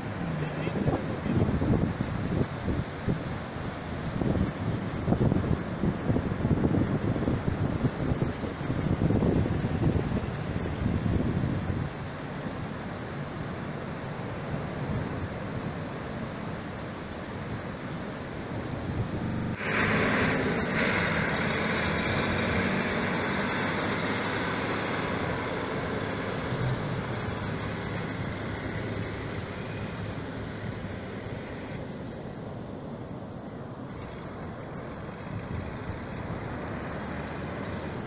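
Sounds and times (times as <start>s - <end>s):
wind buffeting microphone: 0.0s - 32.0s, 34.2s - 38.0s
ocean surf washing up beach: 0.0s - 38.0s.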